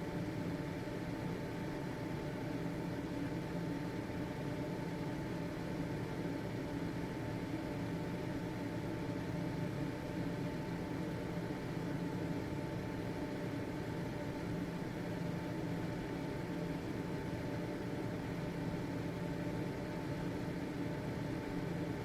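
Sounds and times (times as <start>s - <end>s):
ventilation fan running: 0.0s - 22.0s.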